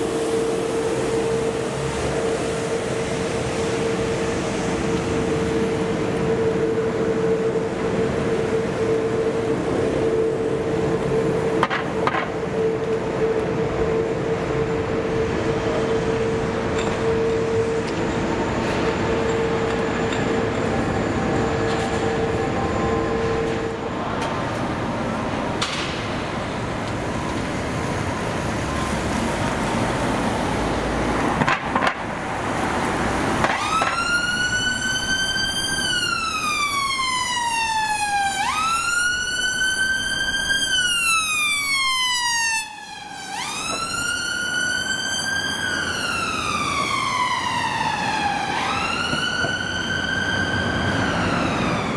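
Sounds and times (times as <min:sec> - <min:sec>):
siren wailing: 0:00.0 - 0:25.6, 0:32.3 - 0:51.9
vehicle noise: 0:00.0 - 0:51.9.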